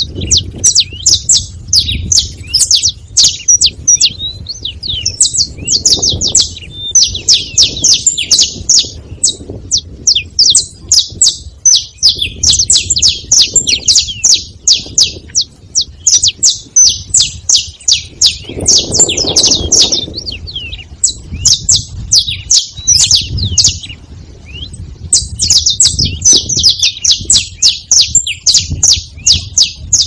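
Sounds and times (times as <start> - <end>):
finches calling with sharp chips: 0.0 - 30.0.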